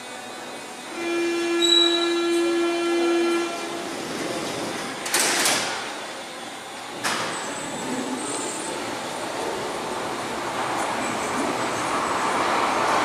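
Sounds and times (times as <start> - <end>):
underground station hum: 0.0 - 13.0.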